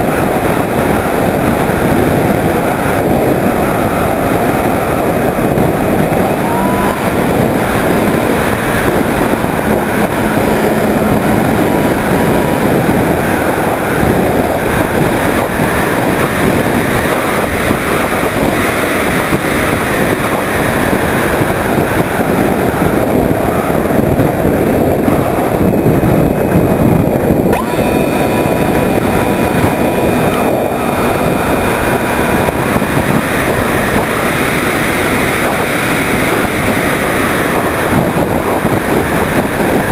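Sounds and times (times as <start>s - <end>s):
electric motor and propeller drone: 0.0s - 39.9s
wind rushing over camera: 0.0s - 39.9s.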